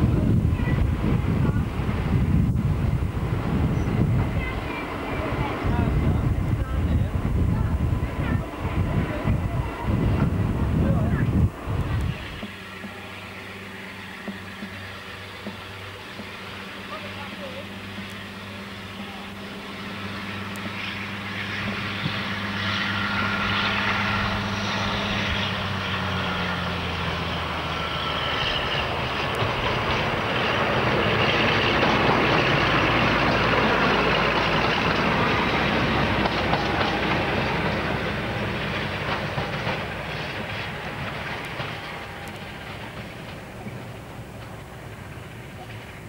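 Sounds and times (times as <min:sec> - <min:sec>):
diesel locomotive passing: 0:00.0 - 0:46.0
high whine: 0:00.0 - 0:46.0.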